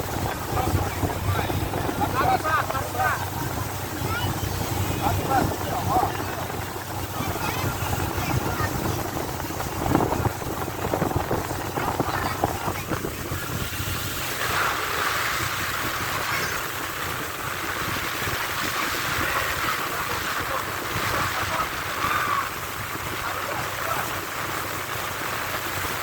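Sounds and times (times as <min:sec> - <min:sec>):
motorboat engine humming: 0:00.0 - 0:26.0
water rushing along hull: 0:00.0 - 0:26.0
wind buffeting microphone: 0:00.0 - 0:26.0.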